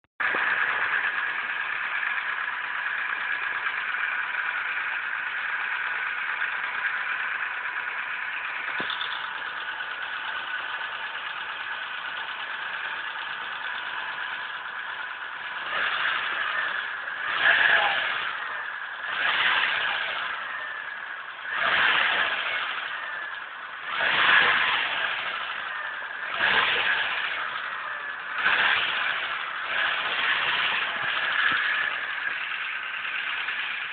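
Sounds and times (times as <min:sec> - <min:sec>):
car engine idling and revving: 0:00.2 - 0:33.9
engine knock: 0:00.2 - 0:33.9.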